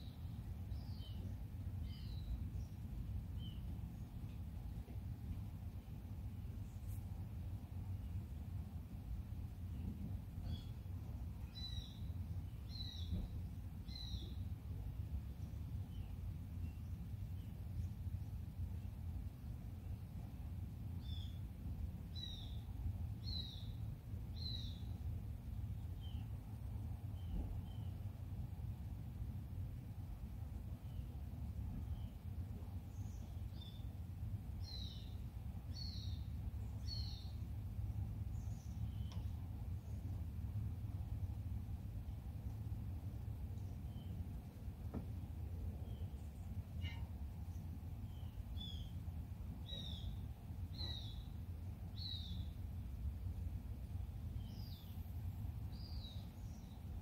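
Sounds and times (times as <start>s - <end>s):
low background rumble: 0.0s - 57.0s.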